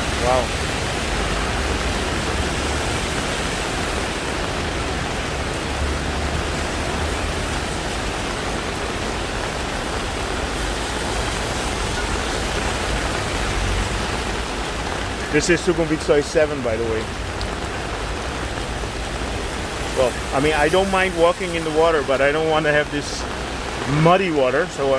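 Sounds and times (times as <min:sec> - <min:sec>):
heavy rain pouring: 0:00.0 - 0:24.9.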